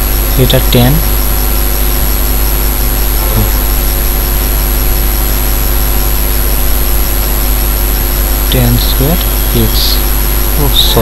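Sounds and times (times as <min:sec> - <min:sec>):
faint high whine: 0:00.0 - 0:11.0
low electrical hum: 0:00.0 - 0:11.0
steady hiss: 0:00.0 - 0:11.0.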